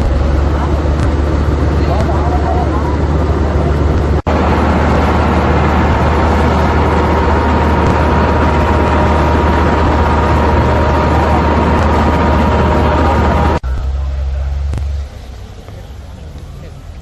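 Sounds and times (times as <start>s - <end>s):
loud rushing noise: 0.0s - 15.6s
heavy engine running: 0.0s - 17.0s
thin steady whine: 0.0s - 17.0s.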